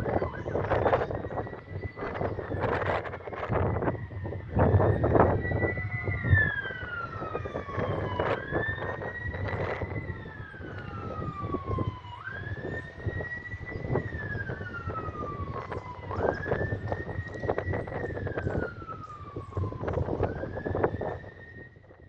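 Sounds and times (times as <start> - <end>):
emergency sirens wailing: 0.0 - 22.0.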